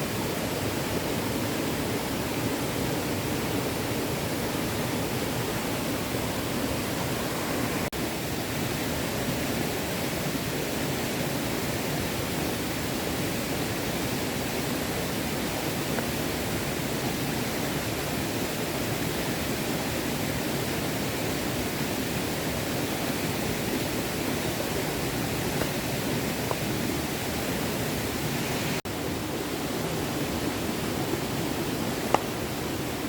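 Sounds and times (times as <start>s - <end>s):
stream running: 0.0s - 33.0s.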